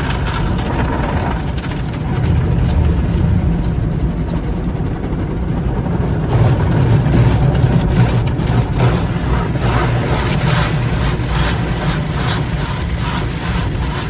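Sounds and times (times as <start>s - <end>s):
car wash machinery rumble: 1.8s - 14.0s.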